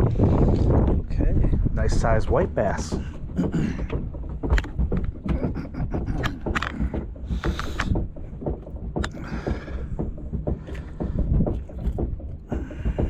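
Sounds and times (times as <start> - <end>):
wind buffeting microphone: 0.0 - 13.0
handling clicks and knocks: 0.5 - 13.0.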